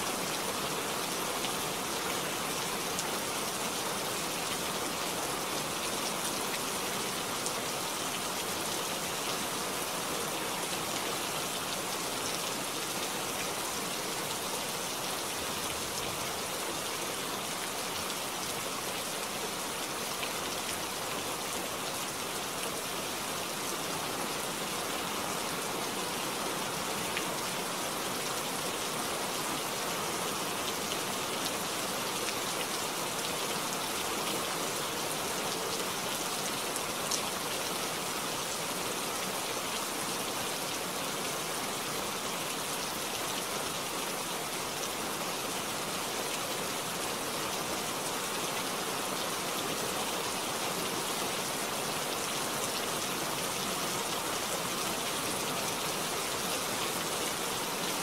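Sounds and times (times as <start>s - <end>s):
rain falling on a wet street: 0.0s - 58.0s.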